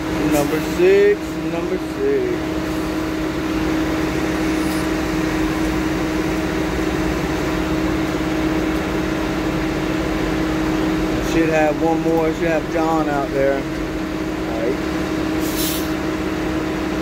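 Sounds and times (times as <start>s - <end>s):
cab fan blower hum: 0.0s - 17.0s
machine engine running: 0.0s - 17.0s.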